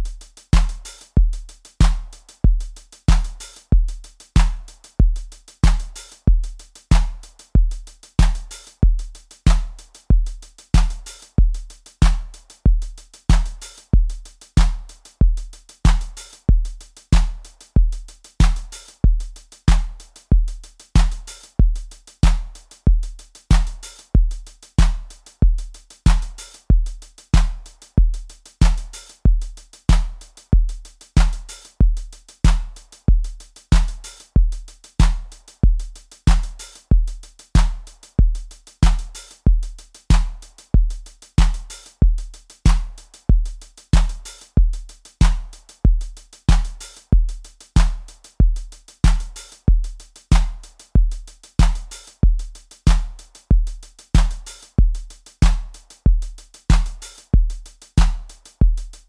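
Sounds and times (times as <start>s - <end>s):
drum machine groove: 0.0s - 59.0s.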